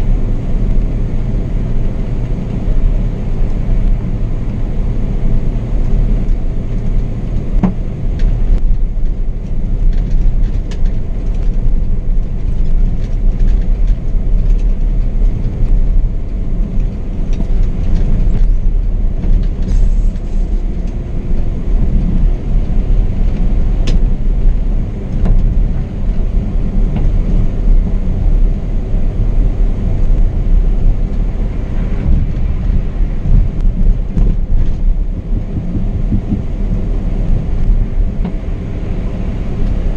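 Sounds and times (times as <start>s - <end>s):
coach driving on highway: 0.0s - 39.9s.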